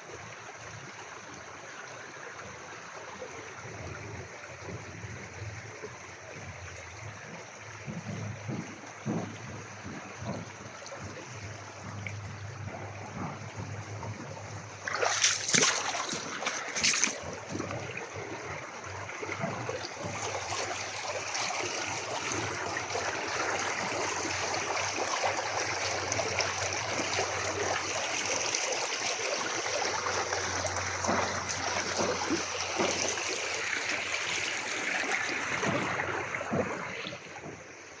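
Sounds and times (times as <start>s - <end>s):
creek water flowing: 0.0s - 38.0s.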